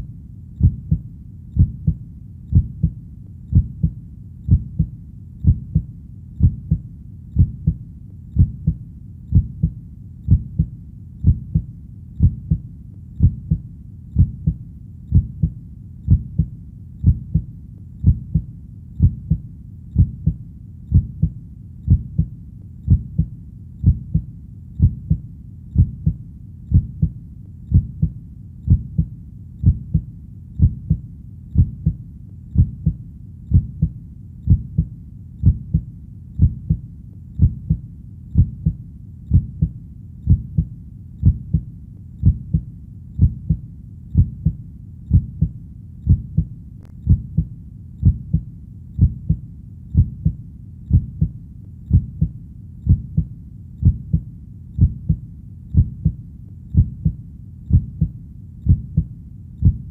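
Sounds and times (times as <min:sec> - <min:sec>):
heartbeat thudding: 0:00.6 - 0:07.8, 0:08.4 - 0:25.2, 0:25.8 - 0:31.0, 0:31.6 - 0:43.6, 0:44.2 - 0:59.9.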